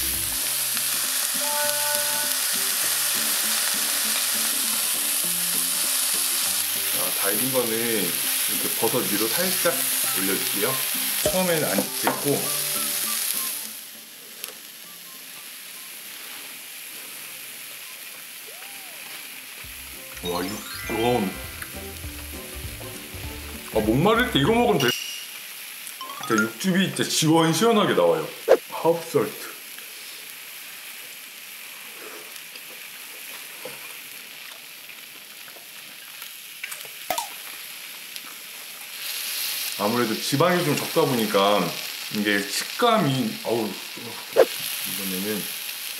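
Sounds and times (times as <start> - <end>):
meat sizzling on a grill pan: 0.0 - 20.2, 21.3 - 26.0, 27.2 - 45.9.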